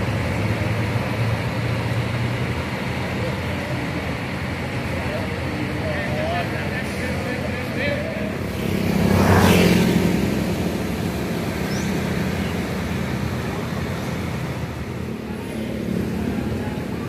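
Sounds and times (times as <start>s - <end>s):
low engine hum: 0.0s - 17.0s
vehicle passing by: 0.0s - 17.0s.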